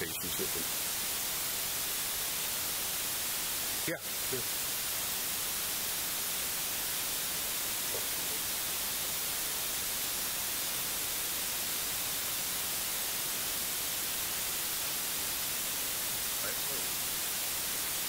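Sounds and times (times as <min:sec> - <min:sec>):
recording hiss: 0:00.0 - 0:18.0.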